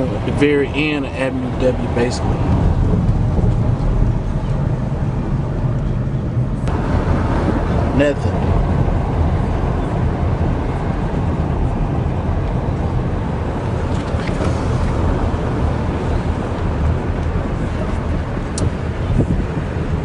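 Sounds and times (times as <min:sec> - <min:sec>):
road and engine rumble: 0:00.0 - 0:20.0
wind buffeting microphone: 0:00.0 - 0:20.0.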